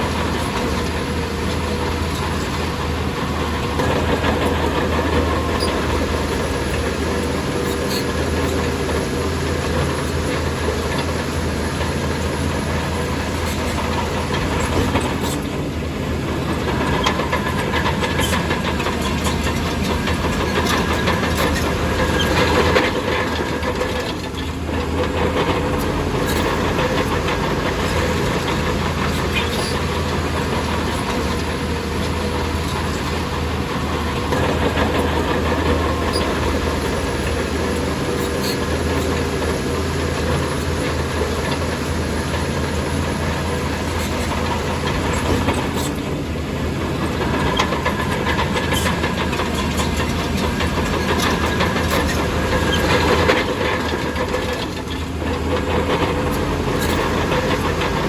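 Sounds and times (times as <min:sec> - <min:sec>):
diesel engine under load: 0:00.0 - 0:58.0
steel tracks clanking: 0:00.0 - 0:58.0.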